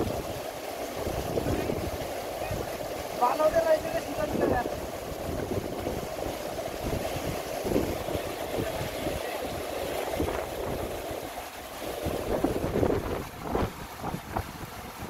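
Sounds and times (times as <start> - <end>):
stream water running: 0.0 - 15.0
wind rumble on microphone: 0.0 - 15.0.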